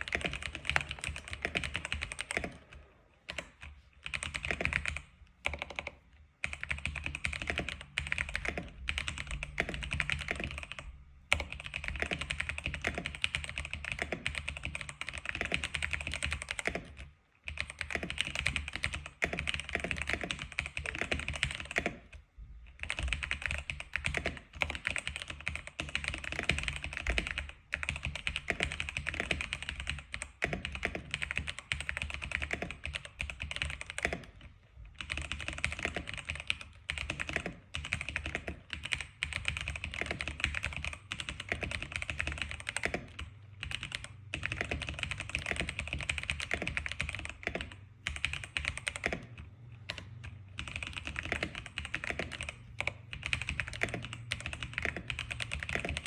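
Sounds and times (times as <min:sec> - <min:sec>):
fast keyboard typing: 0:00.0 - 0:56.0.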